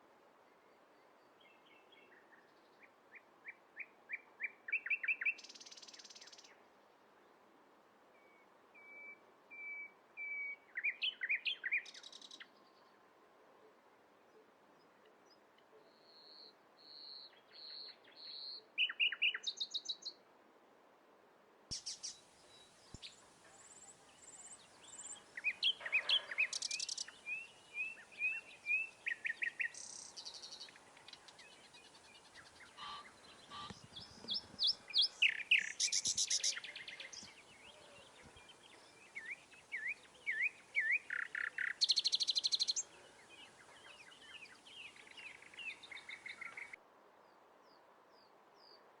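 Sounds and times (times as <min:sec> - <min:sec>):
faint background hiss: 0:00.0 - 0:49.0
songbirds singing and calling: 0:01.2 - 0:06.6, 0:08.2 - 0:12.8, 0:15.3 - 0:20.2, 0:21.7 - 0:46.8.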